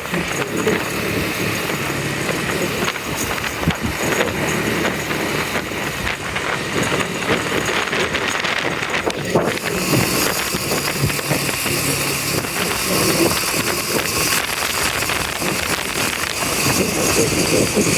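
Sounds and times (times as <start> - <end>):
motorcycle engine and road noise: 0.0 - 17.9.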